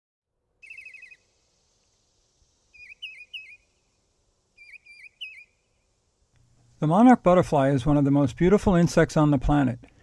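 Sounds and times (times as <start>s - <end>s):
songbird singing: 0.6s - 10.0s.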